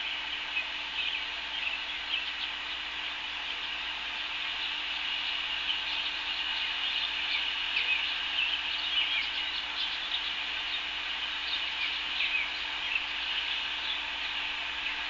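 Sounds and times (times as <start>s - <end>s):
background hiss: 0.0s - 15.0s
birds chirping and calling: 0.0s - 15.0s.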